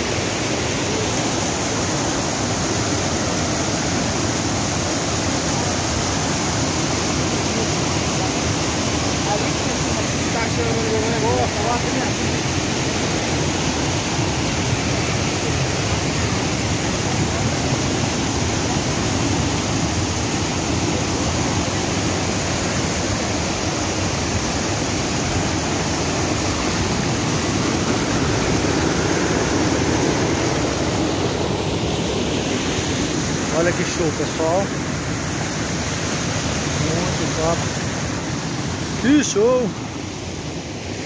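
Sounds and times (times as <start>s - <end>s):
water rushing over rocks: 0.0s - 41.0s.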